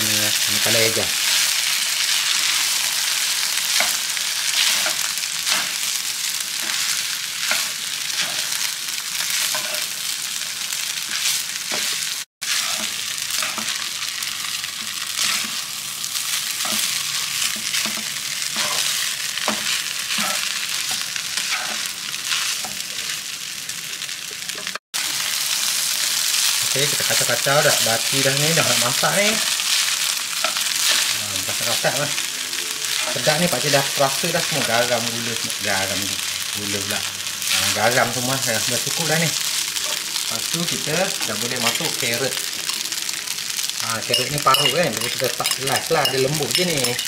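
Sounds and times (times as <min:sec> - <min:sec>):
food sizzling in a pan: 0:00.0 - 0:47.0.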